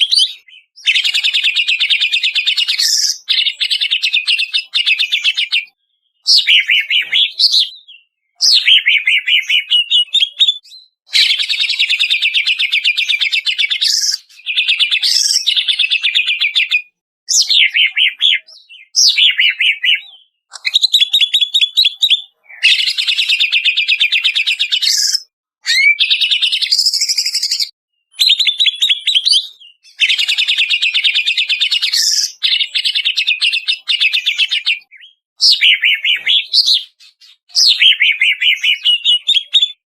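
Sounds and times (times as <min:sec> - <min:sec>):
bird singing chattering whistles: 0:00.0 - 0:39.8.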